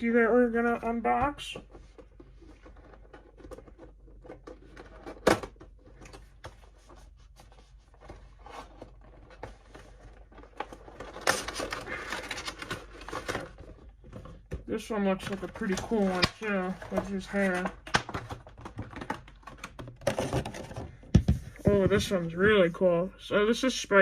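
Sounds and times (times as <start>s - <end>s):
scratchy plastic rustling: 0.9s - 22.7s
packaging clicks and scrapes: 1.7s - 14.5s, 15.2s - 21.6s.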